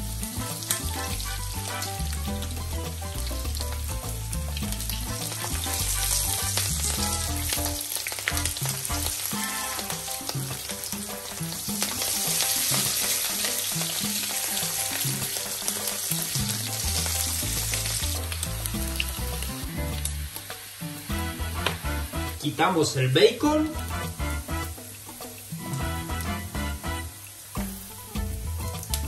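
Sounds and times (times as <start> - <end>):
bacon sizzling in hot fat: 0.0 - 29.0.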